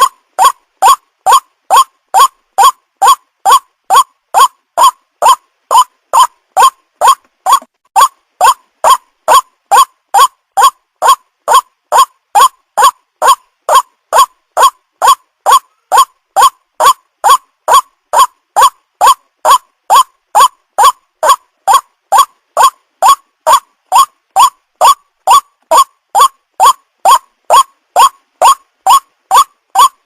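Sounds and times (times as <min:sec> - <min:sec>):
waterhen calls rising in pitch: 0:00.0 - 0:30.0.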